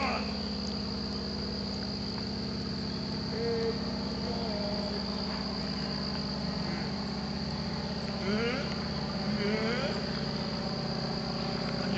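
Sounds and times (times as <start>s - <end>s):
insects trilling: 0.0s - 11.9s.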